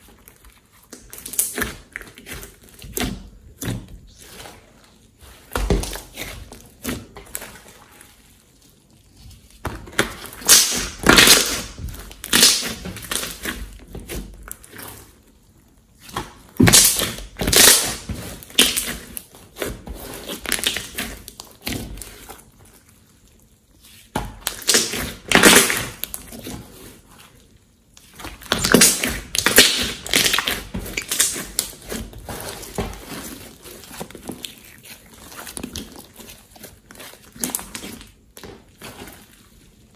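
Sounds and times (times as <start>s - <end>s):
slime squelching and crackling: 0.0s - 39.9s.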